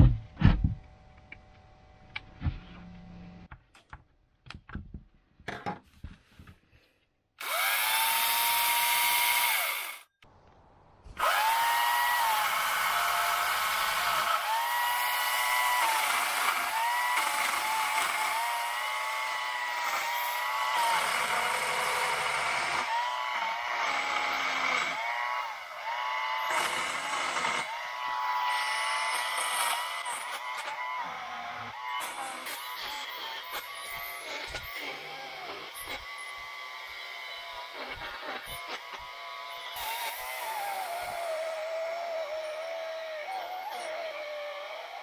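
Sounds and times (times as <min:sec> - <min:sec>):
electric chainsaw whining: 0:07.4 - 0:10.1, 0:11.2 - 0:45.0.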